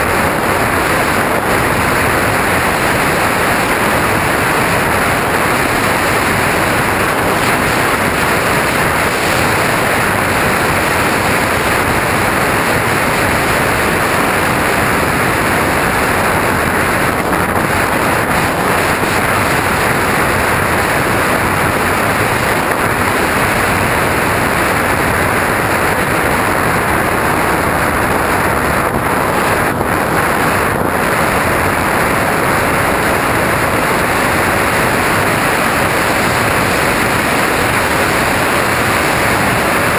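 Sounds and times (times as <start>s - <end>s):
aircraft motor and propeller: 0.0s - 39.9s
wind buffeting microphone: 0.0s - 39.9s.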